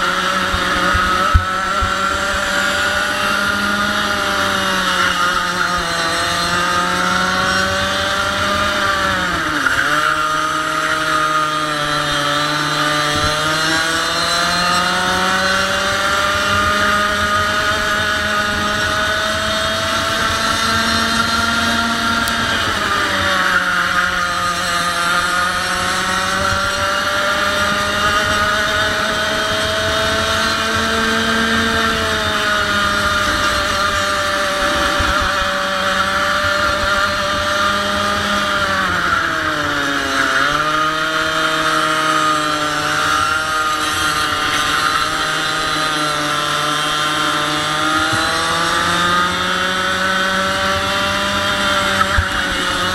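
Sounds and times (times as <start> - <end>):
kart engine running hard: 0.0 - 52.9.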